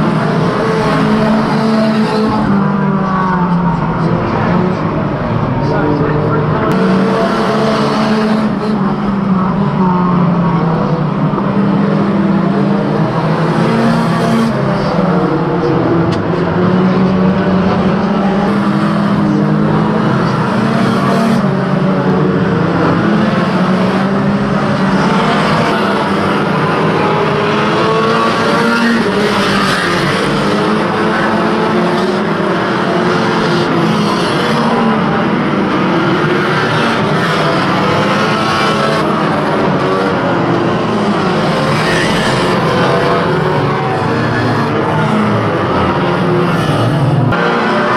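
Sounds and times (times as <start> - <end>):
racing car engines running hard: 0.0 - 47.9.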